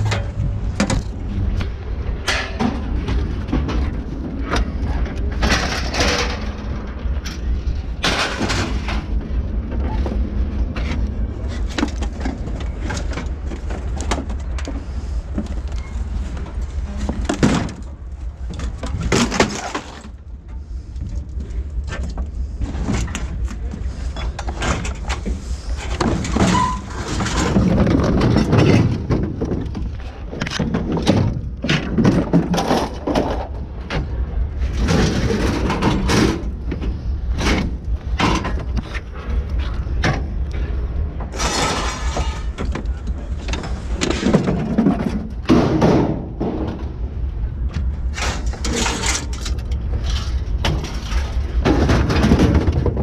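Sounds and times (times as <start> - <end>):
scrap metal clanking and crashing: 0.0 - 1.4, 2.1 - 47.0, 47.8 - 53.0
engine rumble: 0.0 - 53.0.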